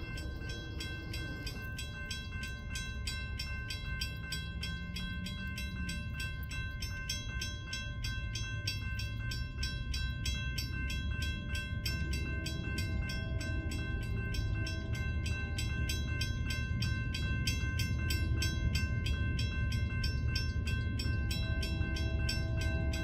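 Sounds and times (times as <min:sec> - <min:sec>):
crossing bell ringing: 0:00.0 - 0:23.0
train rumble: 0:00.0 - 0:23.0.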